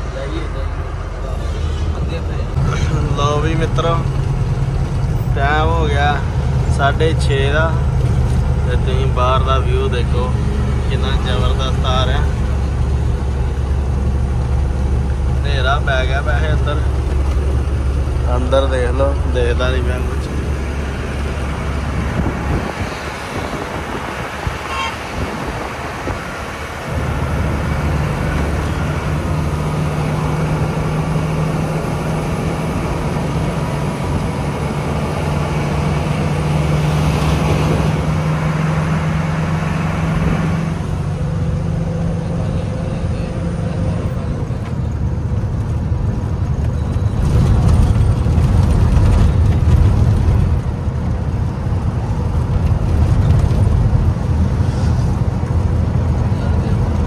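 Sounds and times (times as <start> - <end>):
heavy rumble: 0.0 - 57.0
road noise: 0.0 - 57.0
truck engine drone: 0.0 - 57.0.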